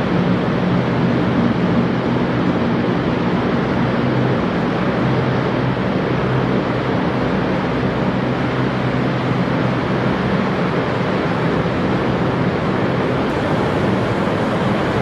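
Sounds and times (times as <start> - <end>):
helicopter engines and rotors droning: 0.0 - 15.0.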